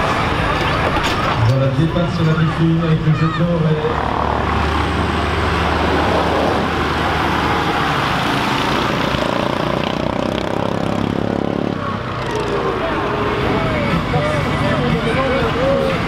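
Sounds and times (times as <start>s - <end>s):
tractor diesel engine passing: 0.0s - 16.0s.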